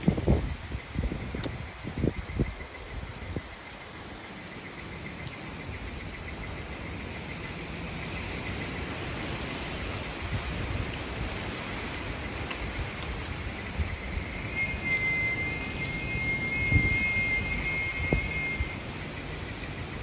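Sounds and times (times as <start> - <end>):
wind rumble on microphone: 0.0 - 4.0, 7.6 - 20.0
cicadas buzzing chorus: 0.0 - 20.0.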